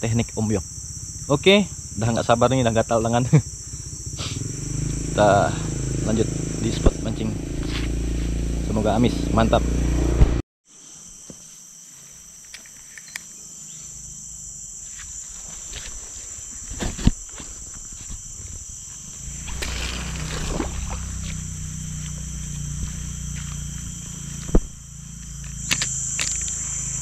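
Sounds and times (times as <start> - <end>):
insects chorus: 0.0 - 27.0.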